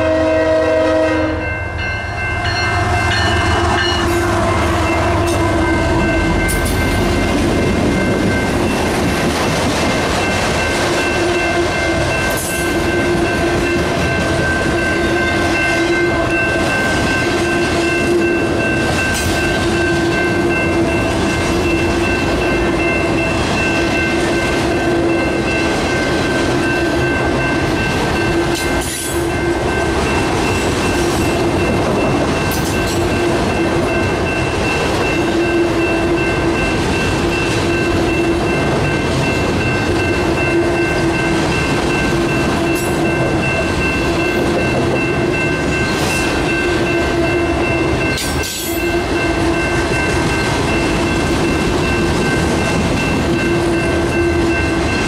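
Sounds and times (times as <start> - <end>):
crossing bell ringing: 0.0 - 55.0
train wheels clacking on rails: 3.0 - 55.0.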